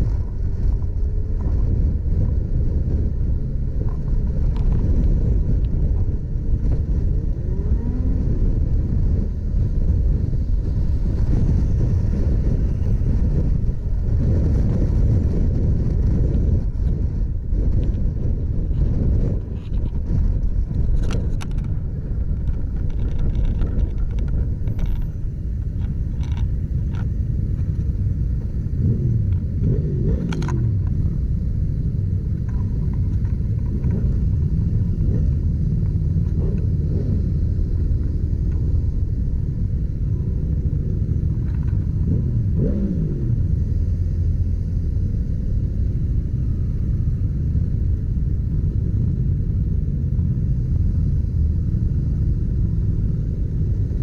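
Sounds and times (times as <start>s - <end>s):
motorcycle engine and road rumble: 0.0s - 54.0s.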